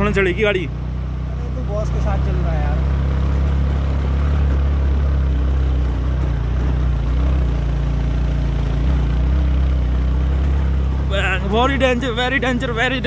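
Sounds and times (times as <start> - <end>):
motorcycle engine drone: 0.0 - 13.0
road and wind noise: 0.0 - 13.0.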